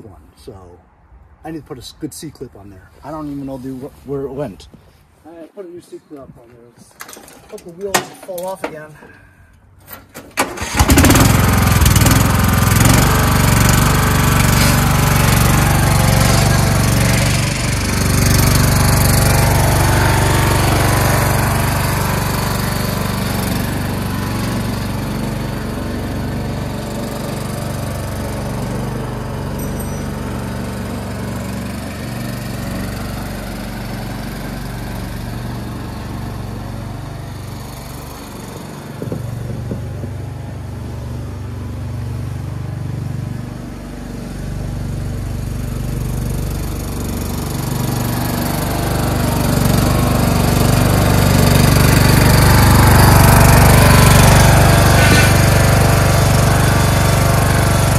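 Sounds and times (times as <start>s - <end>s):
lawn tractor engine running: 9.8s - 57.9s.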